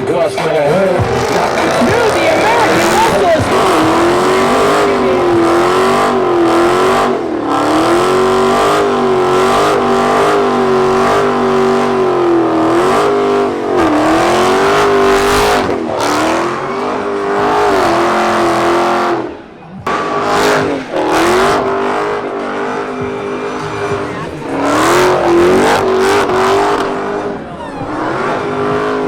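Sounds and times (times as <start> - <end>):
car engine at high revs: 0.0 - 29.0.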